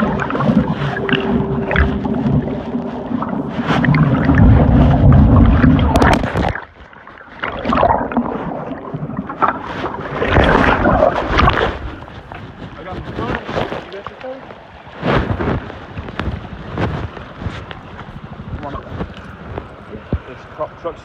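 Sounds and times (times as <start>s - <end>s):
wind buffeting microphone: 0.0s - 6.8s, 7.6s - 21.0s
churning floodwater: 0.0s - 21.0s.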